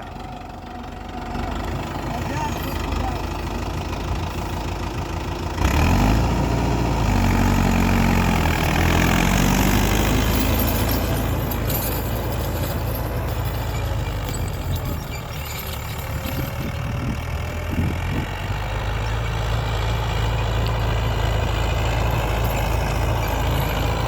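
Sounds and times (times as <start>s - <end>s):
tractor diesel engine: 0.0s - 24.0s.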